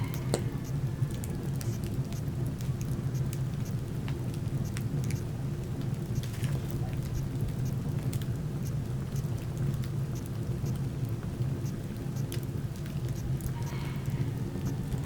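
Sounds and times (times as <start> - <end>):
low fire rumble: 0.0 - 15.0
wood fire crackling and popping: 1.1 - 13.5.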